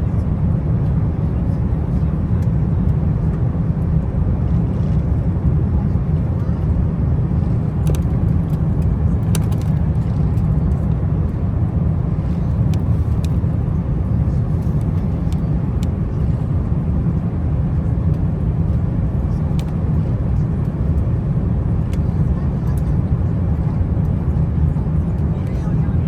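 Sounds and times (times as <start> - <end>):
airliner low rumble: 0.0 - 26.0.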